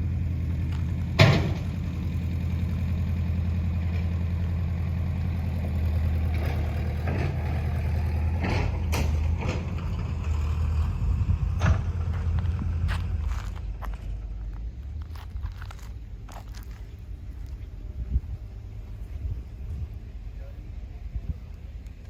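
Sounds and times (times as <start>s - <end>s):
road roller engine idling: 0.0s - 22.0s.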